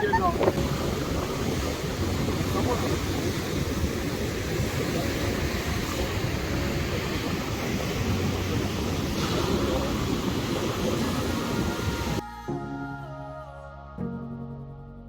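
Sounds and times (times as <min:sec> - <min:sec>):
waves washing on shore: 0:00.0 - 0:12.2
wind rumbling on microphone: 0:00.0 - 0:12.2.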